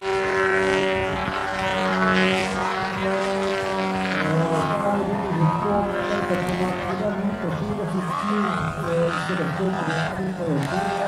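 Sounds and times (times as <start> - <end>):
model airplane engine droning: 0.0 - 11.0.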